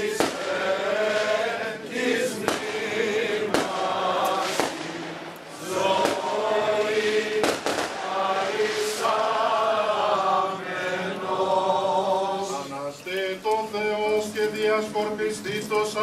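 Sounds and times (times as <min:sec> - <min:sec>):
many voices chanting in unison: 0:00.0 - 0:16.0.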